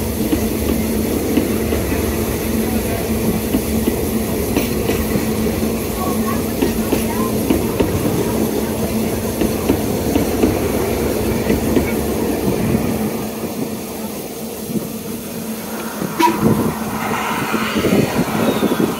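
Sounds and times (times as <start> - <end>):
train coaches clickety-clack: 0.0 - 18.9.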